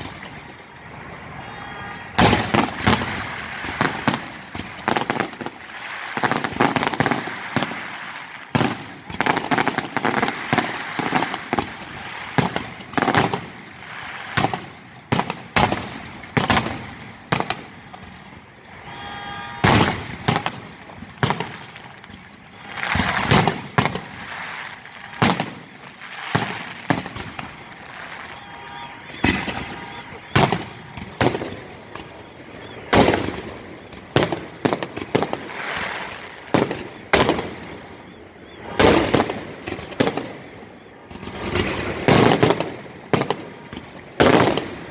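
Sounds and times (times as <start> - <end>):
fireworks bursts and crackles: 0.0 - 44.9.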